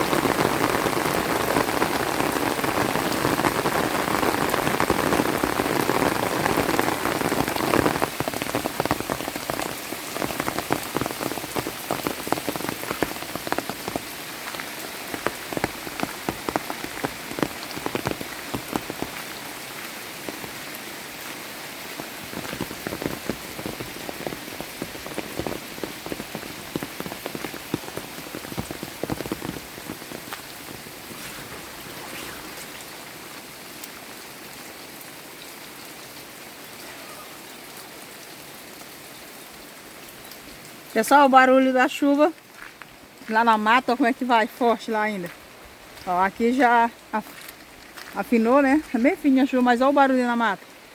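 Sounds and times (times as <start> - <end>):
rain drops falling: 0.0 - 50.9.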